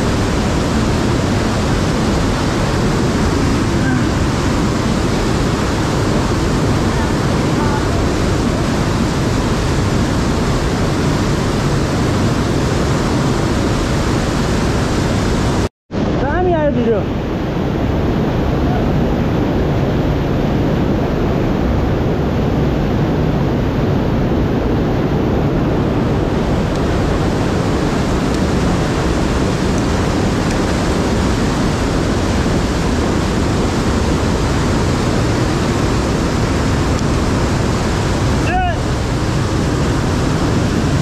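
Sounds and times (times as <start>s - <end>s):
river rushing through gorge: 0.0s - 41.0s.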